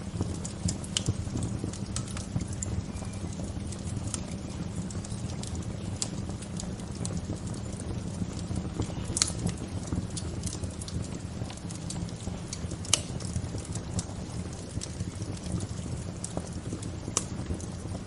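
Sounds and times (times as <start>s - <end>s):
loud fire snaps: 0.0s - 18.0s
wood fire crackling: 0.0s - 18.0s.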